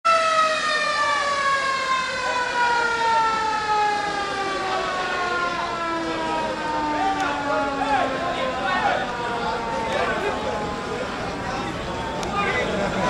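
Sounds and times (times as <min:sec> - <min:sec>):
siren with falling pitch: 0:00.1 - 0:13.0.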